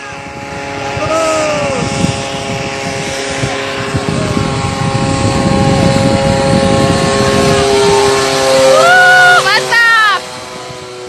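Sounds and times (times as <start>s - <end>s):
ultralight aircraft engine running: 0.0s - 11.0s.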